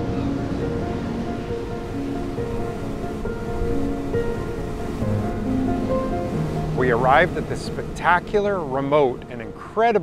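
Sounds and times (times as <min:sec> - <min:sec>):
music with long held notes: 0:00.0 - 0:09.6
steady low noise: 0:00.0 - 0:09.6.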